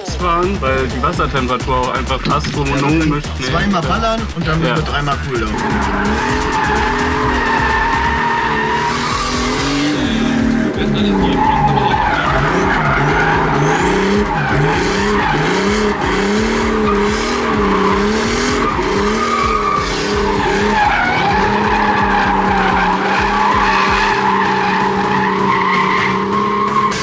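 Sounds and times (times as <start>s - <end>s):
turbocharged car engine revving: 0.0s - 27.0s.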